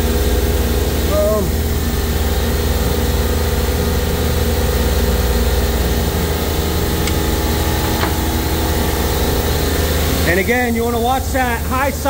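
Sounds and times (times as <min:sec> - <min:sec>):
refrigeration compressor humming: 0:00.0 - 0:12.0.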